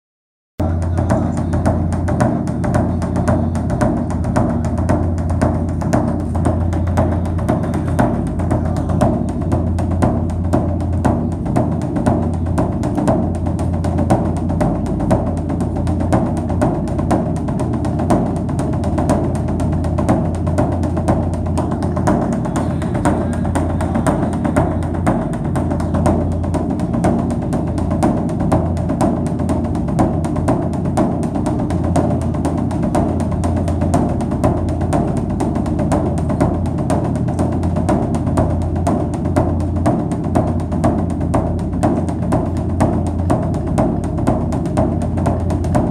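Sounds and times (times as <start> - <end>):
background music with drum beat: 0.6 - 45.9.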